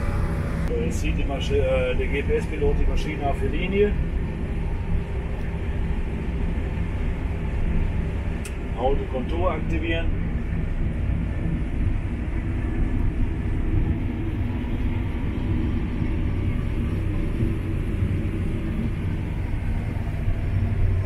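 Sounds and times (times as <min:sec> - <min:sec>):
combine harvester rumble: 0:00.0 - 0:21.0.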